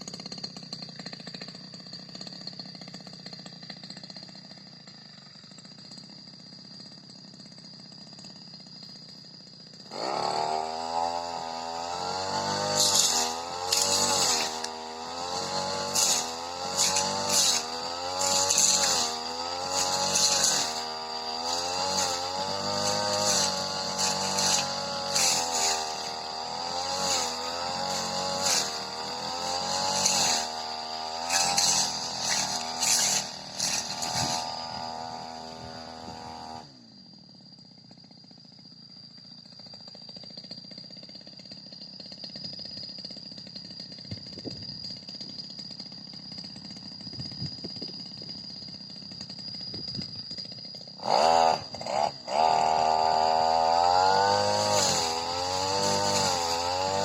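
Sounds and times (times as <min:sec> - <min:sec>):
brush cutter engine revving: 0:00.0 - 0:36.9, 0:39.4 - 0:57.0.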